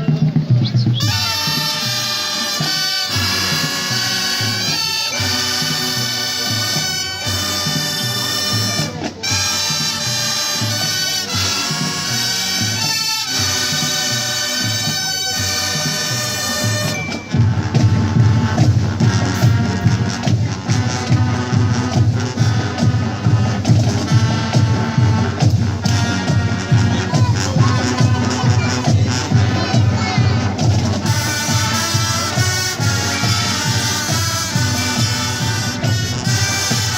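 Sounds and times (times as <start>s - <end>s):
marching brass band playing: 0.0s - 36.9s.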